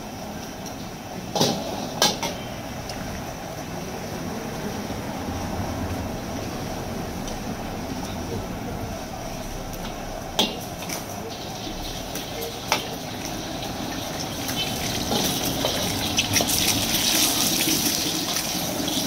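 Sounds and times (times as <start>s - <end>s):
oil sizzling: 0.0s - 8.3s, 8.9s - 19.0s
gas burner roaring: 0.0s - 19.0s.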